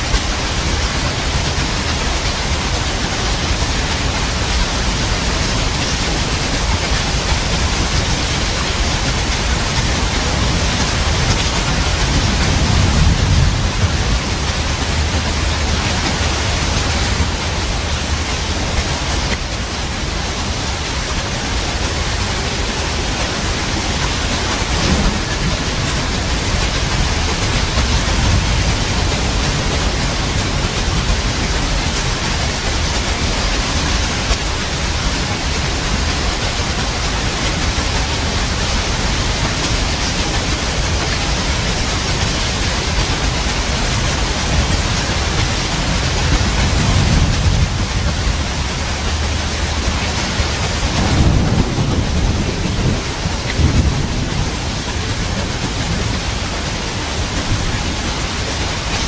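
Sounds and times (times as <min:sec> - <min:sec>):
heavy rain hissing: 0:00.0 - 0:59.0
thunder rumbling: 0:00.0 - 0:59.0.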